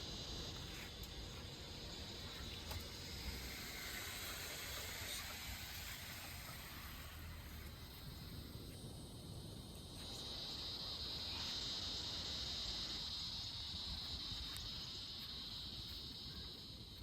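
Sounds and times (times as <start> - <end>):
insects singing in chorus: 0.0 - 17.0.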